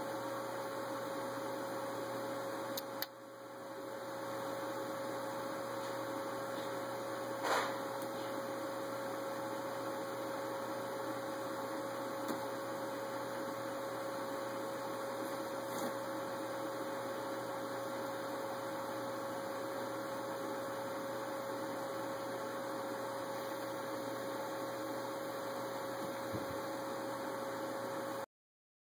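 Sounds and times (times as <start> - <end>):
electrical hum: 0.0 - 28.3.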